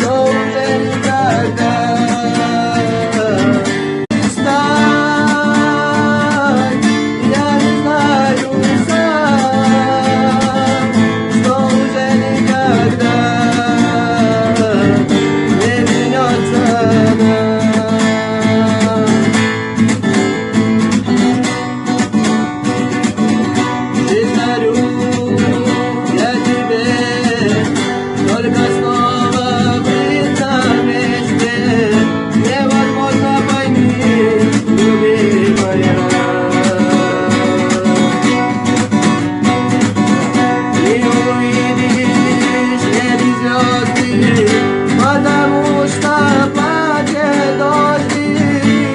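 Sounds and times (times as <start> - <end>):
gliding guitar melody: 0.0 - 48.9
strummed acoustic guitar: 0.0 - 48.9.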